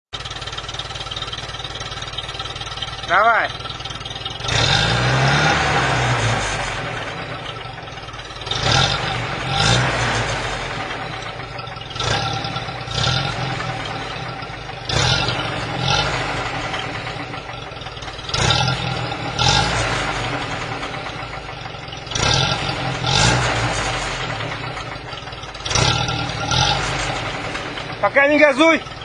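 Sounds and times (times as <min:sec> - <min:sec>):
engine idling and revving: 0:00.0 - 0:29.0.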